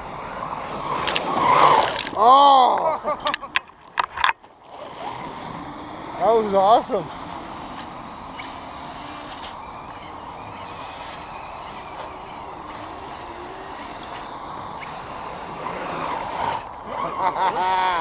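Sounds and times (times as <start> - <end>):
electric motors and gears whirring: 0.0 - 18.0.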